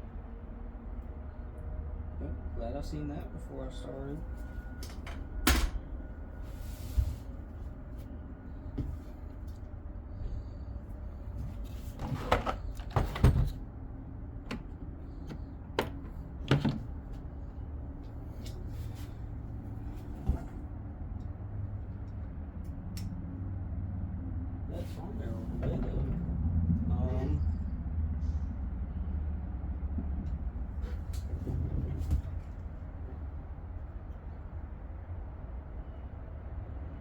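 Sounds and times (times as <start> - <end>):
low steady rumble: 0.0 - 37.0.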